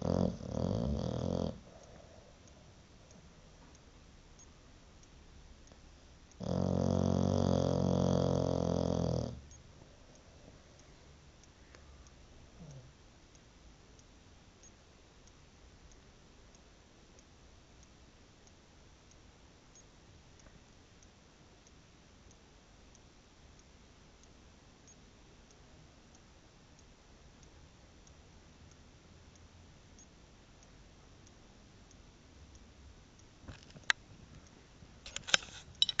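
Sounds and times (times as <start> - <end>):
soft ticks: 0.0 - 36.0.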